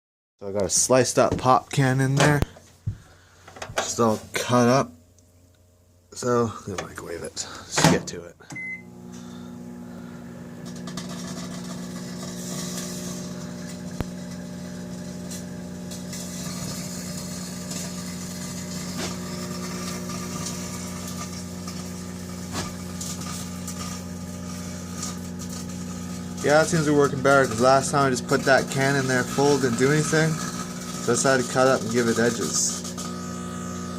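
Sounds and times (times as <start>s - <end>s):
microwave oven humming: 2.0s - 33.9s.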